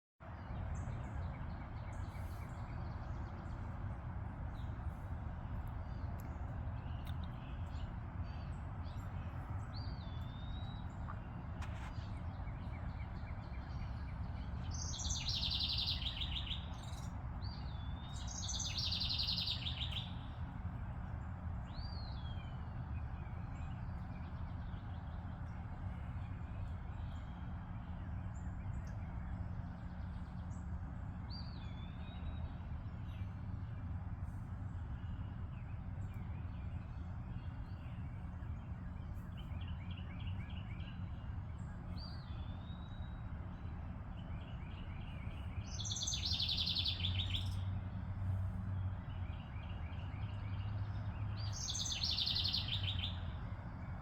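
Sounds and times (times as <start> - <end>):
songbirds calling and singing: 0.2 - 54.0.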